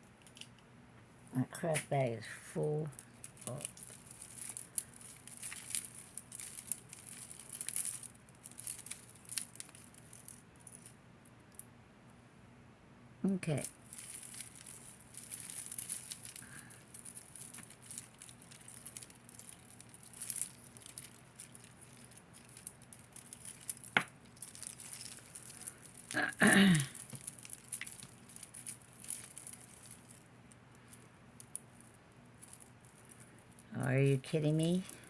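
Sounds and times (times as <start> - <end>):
jewelry chains clinking: 2.9 - 11.0, 13.5 - 35.0.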